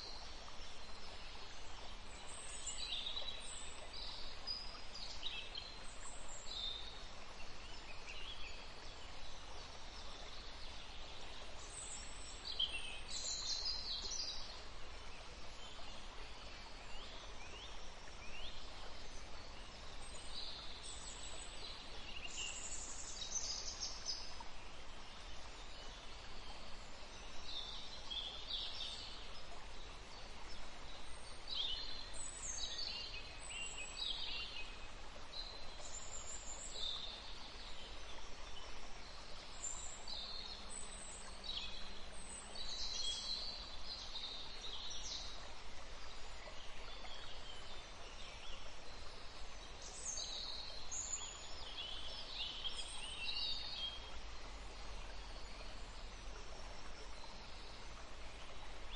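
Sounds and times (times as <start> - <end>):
steady background hiss: 0.0 - 58.9.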